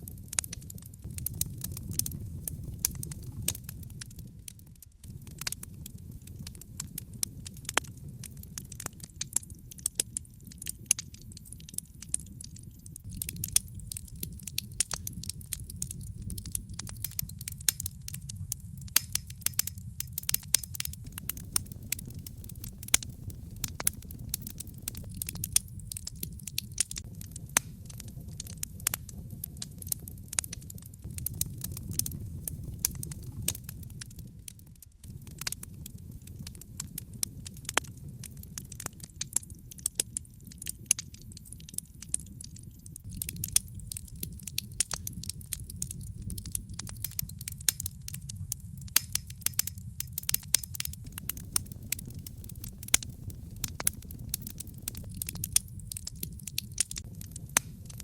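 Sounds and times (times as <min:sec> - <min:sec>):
wood fire crackling and popping: 0:00.0 - 0:58.0
low rumble: 0:01.1 - 0:09.0, 0:13.1 - 0:38.4, 0:43.1 - 0:58.0.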